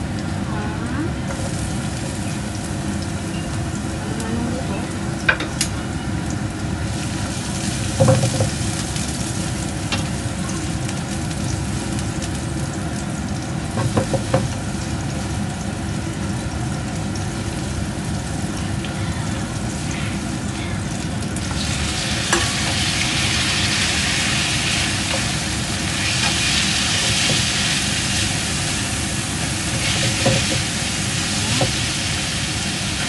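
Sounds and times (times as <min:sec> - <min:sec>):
vegetables sizzling in oil: 0:00.0 - 0:33.0.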